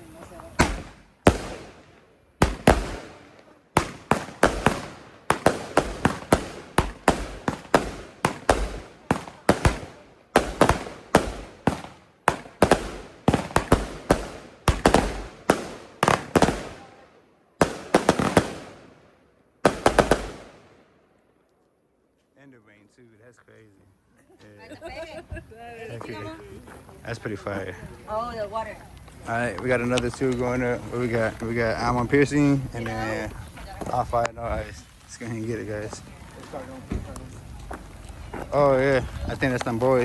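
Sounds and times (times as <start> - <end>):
firework cakes banging: 0.0 - 17.0, 17.6 - 19.0, 19.6 - 20.8, 26.6 - 40.0.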